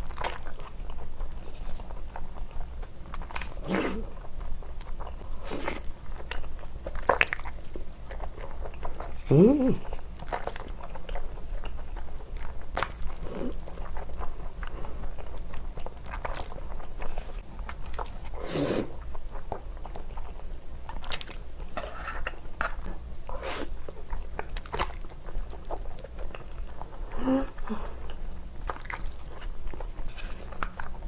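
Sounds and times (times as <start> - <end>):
biting and crunching: 0.0 - 27.1, 28.0 - 31.0.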